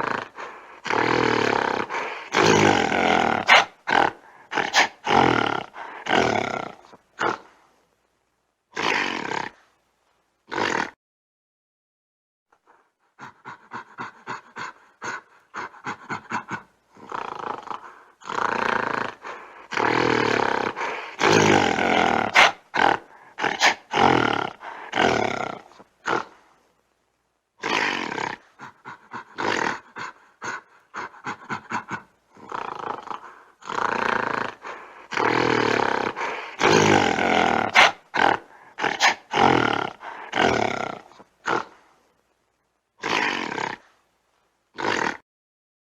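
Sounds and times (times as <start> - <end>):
gorilla grunting and growling: 0.0 - 7.6, 10.5 - 11.0, 12.7 - 26.4, 27.6 - 41.8, 43.0 - 44.0, 44.8 - 45.2.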